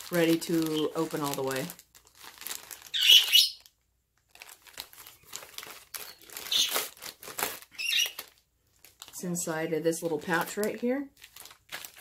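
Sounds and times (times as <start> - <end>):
plastic mailer crinkling: 0.0 - 12.0.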